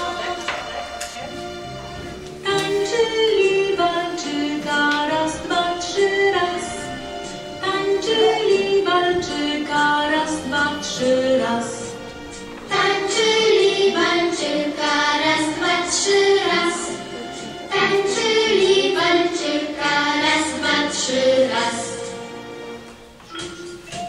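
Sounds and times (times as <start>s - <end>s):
young children singing: 0.0s - 1.3s, 2.4s - 22.4s.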